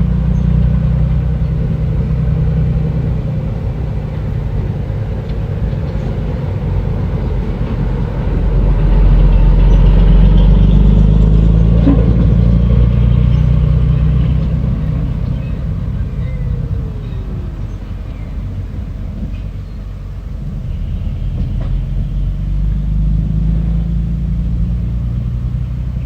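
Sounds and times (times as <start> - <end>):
bulldozer diesel engine rumble: 0.0 - 26.0.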